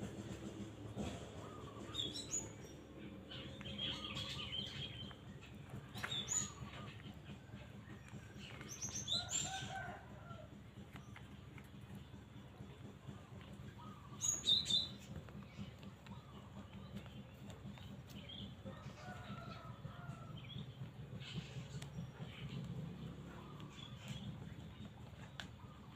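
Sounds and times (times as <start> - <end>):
birds chirping: 0.0 - 25.9
steady low hum: 0.0 - 25.9.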